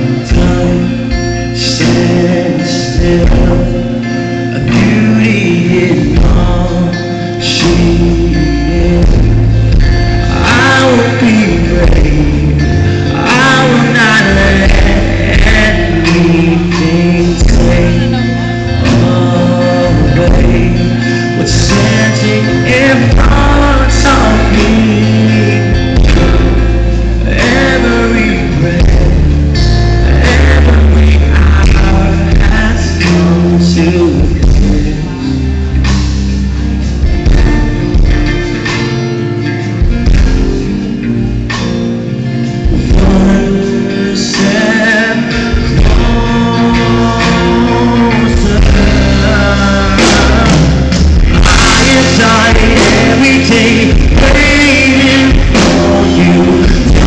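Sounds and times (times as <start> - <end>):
man singing: 0.0 - 36.1, 42.1 - 57.0
acoustic guitar: 0.0 - 57.0
drums: 0.0 - 57.0
electric guitar: 0.0 - 57.0.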